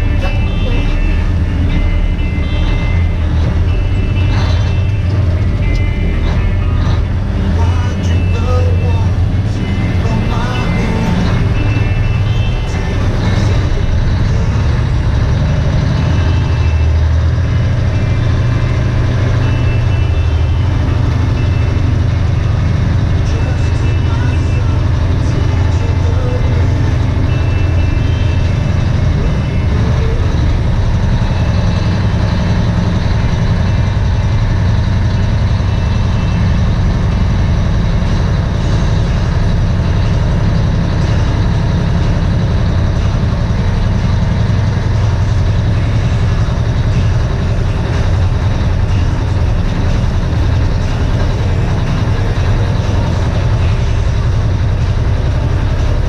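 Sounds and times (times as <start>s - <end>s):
diesel engine drone inside cab: 0.0s - 56.0s.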